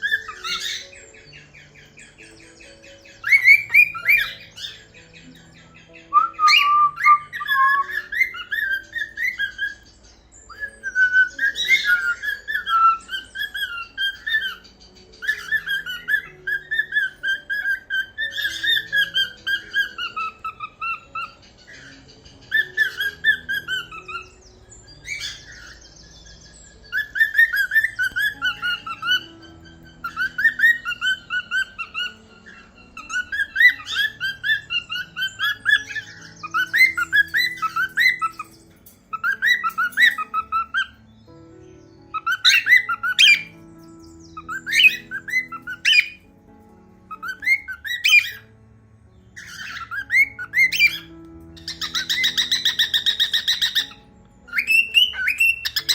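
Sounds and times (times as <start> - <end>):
cockatiels chirping and whistling: 0.0 - 41.3, 42.0 - 46.3, 47.1 - 48.5, 49.4 - 55.9.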